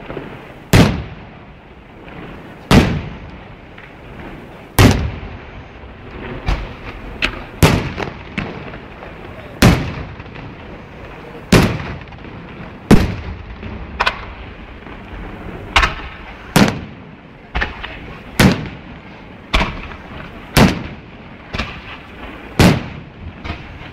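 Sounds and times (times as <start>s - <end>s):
fireworks banging: 0.0s - 23.9s
steady background rumble: 0.0s - 23.9s.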